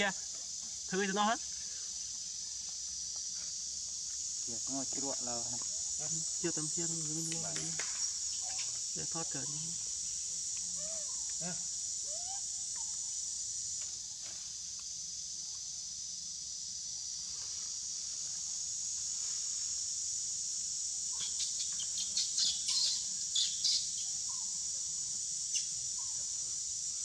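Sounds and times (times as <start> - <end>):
insect chorus drone: 0.0 - 27.0.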